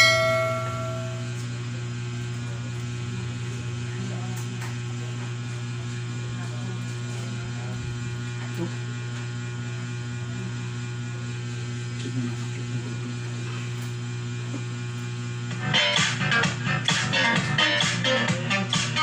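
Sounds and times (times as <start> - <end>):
low mains hum: 0.0 - 18.7.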